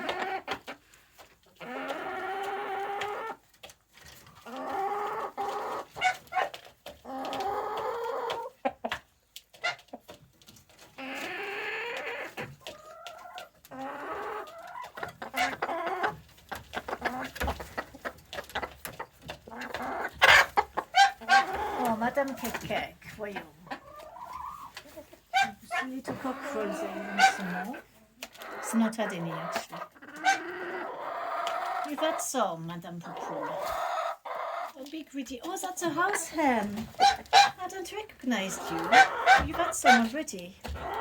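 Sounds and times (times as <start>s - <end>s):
chickens calling: 0.0s - 41.0s
chickens clucking: 0.0s - 41.0s.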